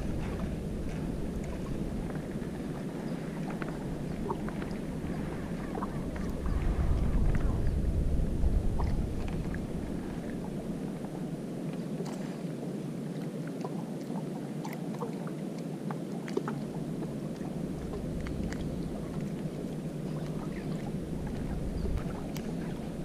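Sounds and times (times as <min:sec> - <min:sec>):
water at harbour edge: 0:00.0 - 0:23.0
wind: 0:00.0 - 0:23.0
wind rumble on microphone: 0:00.0 - 0:23.0.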